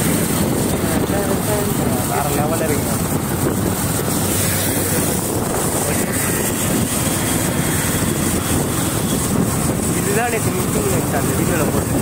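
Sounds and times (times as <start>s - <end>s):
motorcycle road noise: 0.0s - 12.0s
wind rush on microphone: 0.0s - 12.0s.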